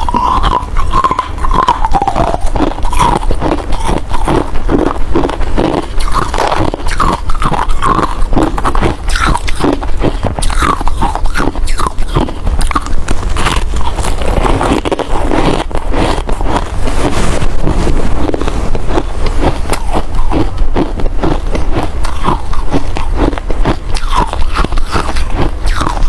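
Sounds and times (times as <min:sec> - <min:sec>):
person chewing ice: 0:00.0 - 0:26.0.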